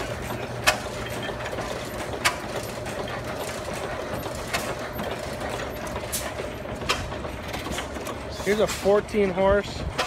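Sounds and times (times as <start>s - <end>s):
engine mechanical clatter: 0.0s - 10.0s
stationary engine exhaust reports: 0.0s - 10.0s.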